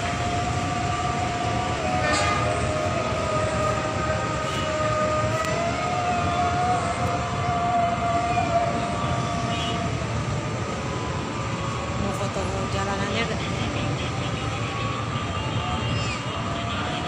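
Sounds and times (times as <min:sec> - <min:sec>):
train rumbling past: 0:00.0 - 0:14.7
train whine: 0:00.0 - 0:17.0.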